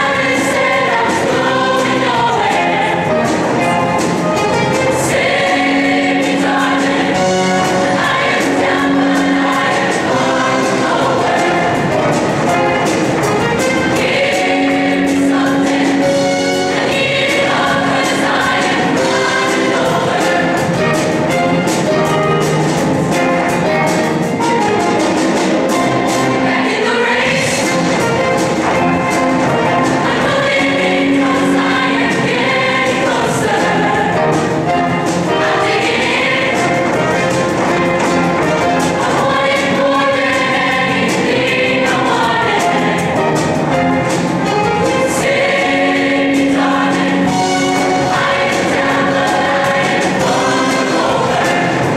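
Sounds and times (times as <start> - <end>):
choir singing in parts: 0.0 - 51.9
instrumental accompaniment with beat: 0.0 - 51.9.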